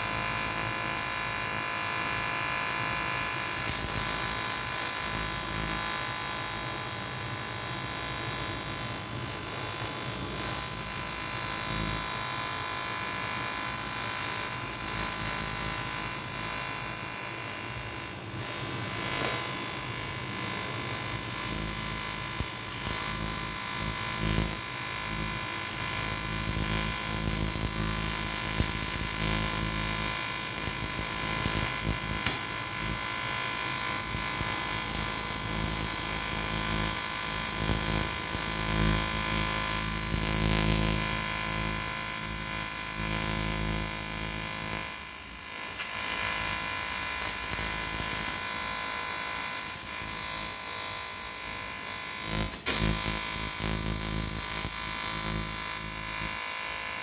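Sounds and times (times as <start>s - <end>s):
welding arc buzzing: 0.0s - 57.0s.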